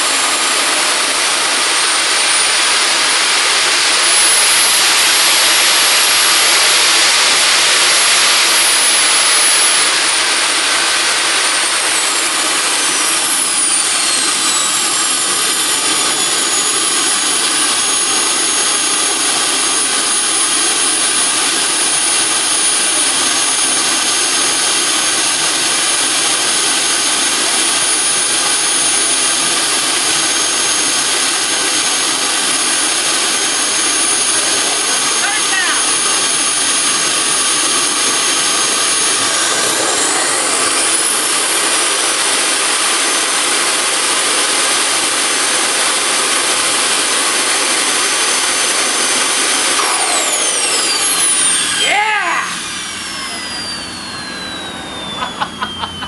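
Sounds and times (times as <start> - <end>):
jet turbine roaring and whining: 0.0 - 56.0.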